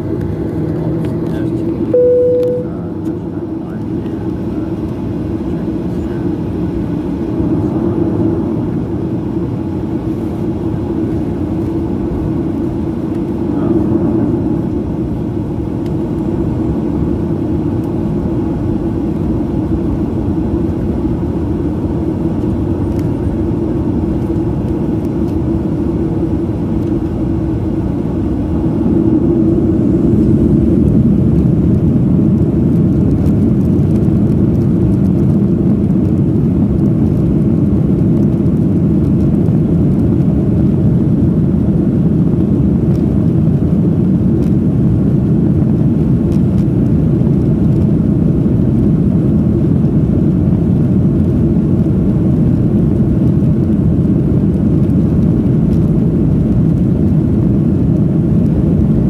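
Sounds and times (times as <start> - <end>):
jet engines and wheels rumbling: 0.0 - 59.0.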